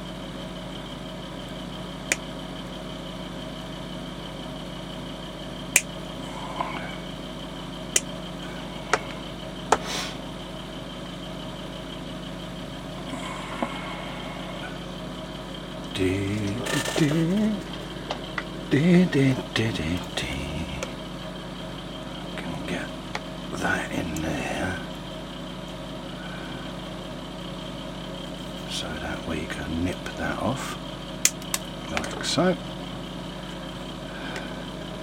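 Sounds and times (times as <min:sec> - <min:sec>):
low workshop hum: 0:00.0 - 0:35.0.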